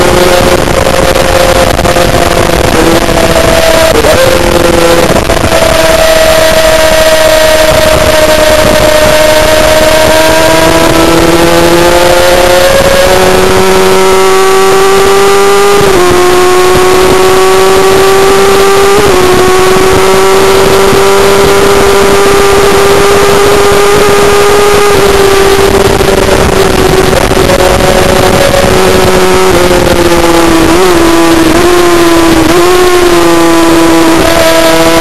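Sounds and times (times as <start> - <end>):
motorcycle engine at high revs: 0.0 - 35.0
wind noise on microphone: 0.0 - 35.0.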